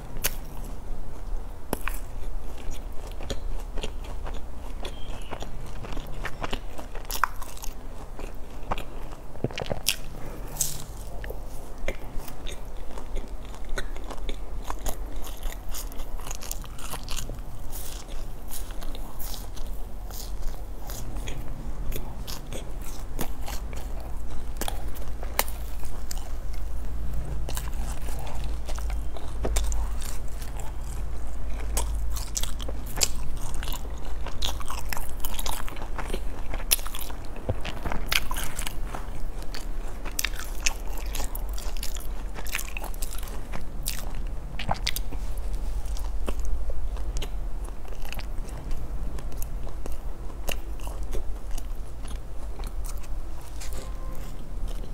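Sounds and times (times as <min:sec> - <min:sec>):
chewing crusty bread: 0:00.0 - 0:54.9
steady low hum: 0:00.0 - 0:54.9.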